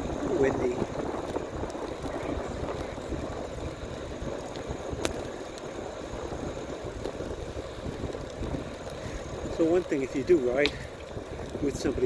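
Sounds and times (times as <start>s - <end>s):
tyres rumbling on path: 0.0s - 12.0s
wind buffeting microphone: 0.0s - 12.0s.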